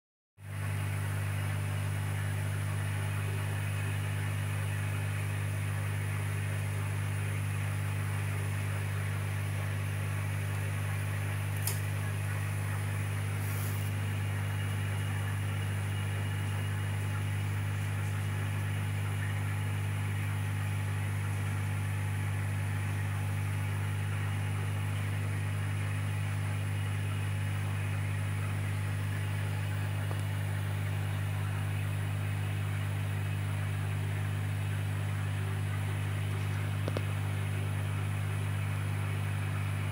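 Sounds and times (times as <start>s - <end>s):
aquarium pump humming: 0.4s - 39.9s.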